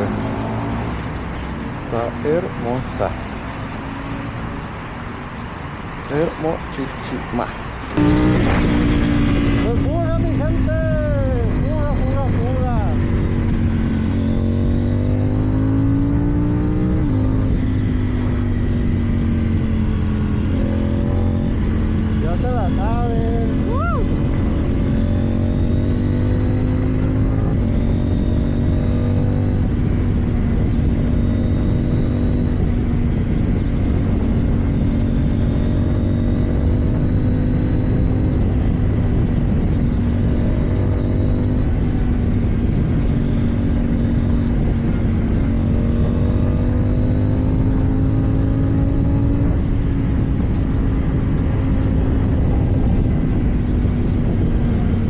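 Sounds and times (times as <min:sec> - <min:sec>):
motorcycle engine accelerating: 0:00.0 - 0:05.2, 0:06.0 - 0:55.0
wind rush: 0:00.0 - 0:55.0.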